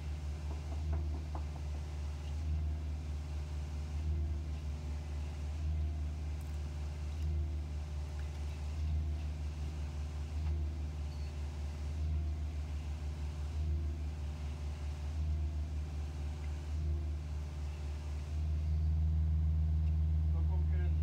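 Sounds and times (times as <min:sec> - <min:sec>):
concrete pump engine droning: 0:00.0 - 0:21.0.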